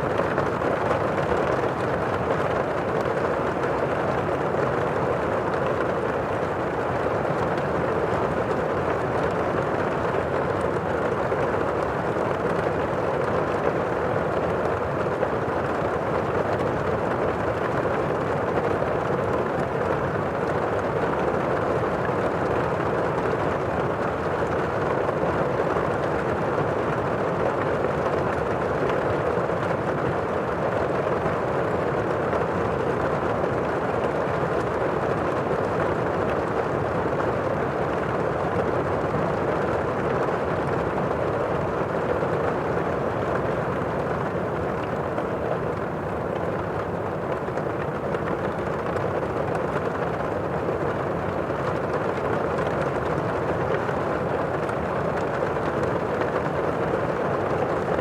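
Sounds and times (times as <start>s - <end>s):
muffled heavy rain: 0.0s - 58.0s.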